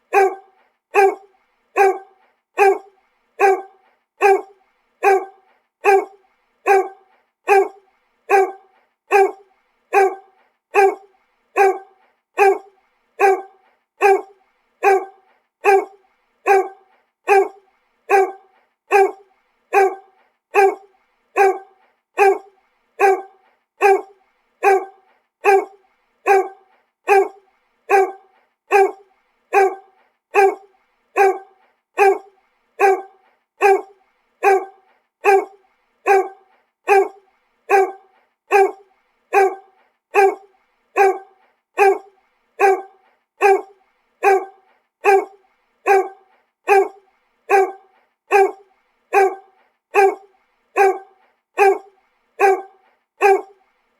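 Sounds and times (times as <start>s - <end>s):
dog barking: 0.1s - 53.6s.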